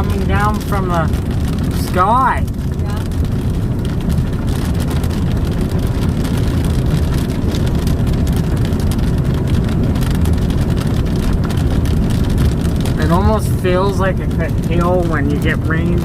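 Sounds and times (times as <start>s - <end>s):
car interior rumble: 0.0s - 16.0s
raindrops hitting car: 0.0s - 16.0s.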